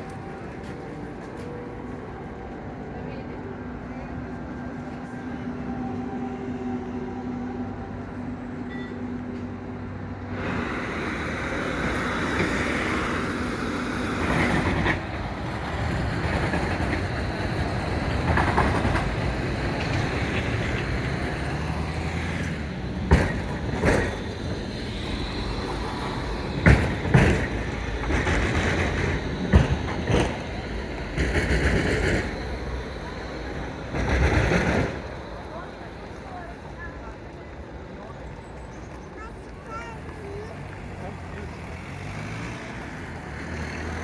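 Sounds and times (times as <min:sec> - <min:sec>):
tram running on rails: 0:00.0 - 0:44.0.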